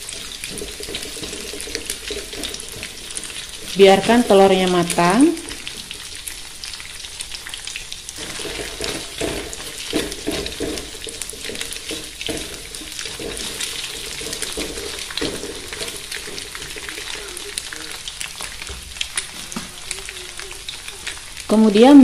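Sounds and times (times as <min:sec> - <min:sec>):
eggs sizzling in a wok: 0:00.0 - 0:22.0
spatula scraping and stirring: 0:00.0 - 0:22.0.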